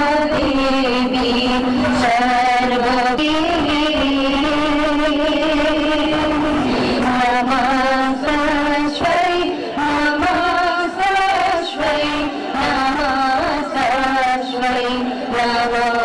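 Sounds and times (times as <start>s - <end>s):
women singing in chorus: 0.0s - 16.0s.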